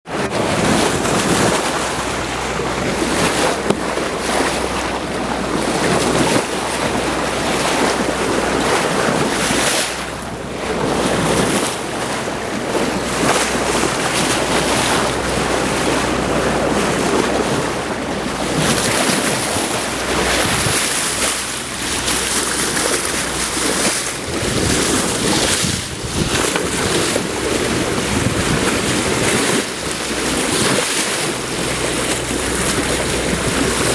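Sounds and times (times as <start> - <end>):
sea water rushing and splashing: 0.0 - 33.9
wind buffeting microphone: 0.1 - 33.9.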